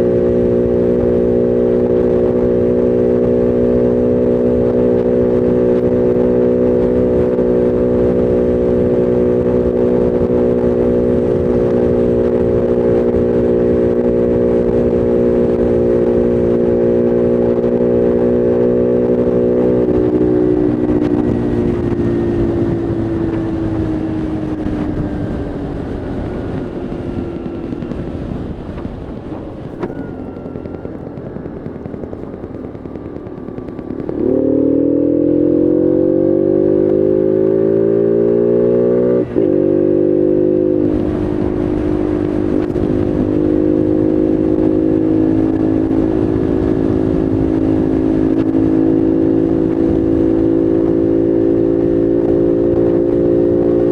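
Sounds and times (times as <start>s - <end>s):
motorbike engine running: 0.0s - 53.9s.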